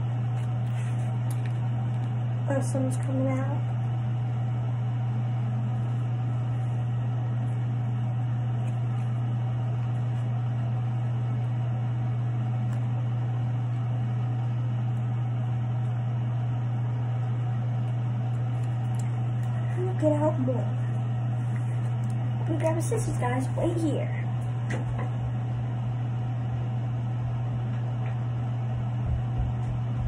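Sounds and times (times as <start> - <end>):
ventilation fan humming: 0.0 - 30.0.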